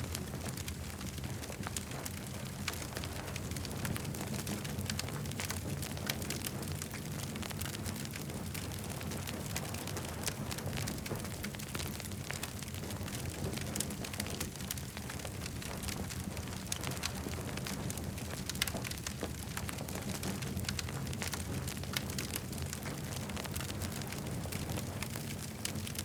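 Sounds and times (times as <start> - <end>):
burning wood popping and snapping: 0.0 - 26.0
low fire rumble: 0.0 - 26.0.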